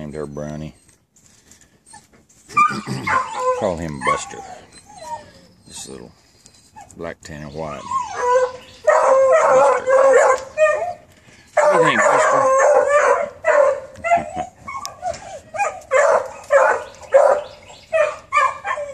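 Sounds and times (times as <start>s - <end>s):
puppies barking: 1.8s - 18.9s.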